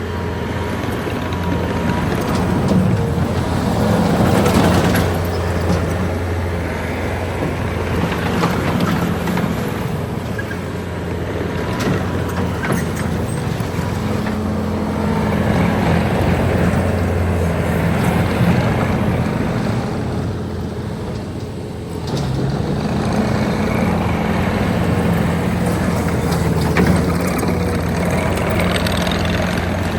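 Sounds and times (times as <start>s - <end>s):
diesel engine running: 0.0s - 29.9s
machine clanks and rattles: 1.0s - 29.9s.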